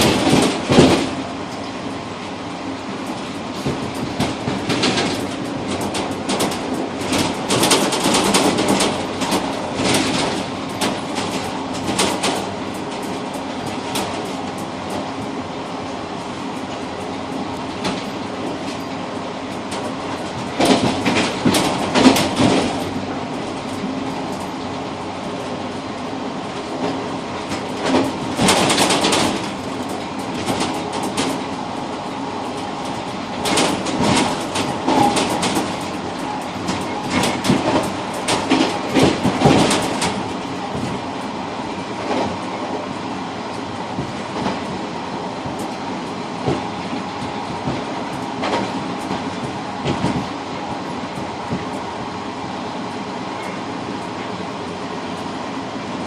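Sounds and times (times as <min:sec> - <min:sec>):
wheel clacks over rail joints: 0:00.0 - 0:01.9, 0:02.8 - 0:52.1
train running rumble: 0:00.0 - 0:56.0.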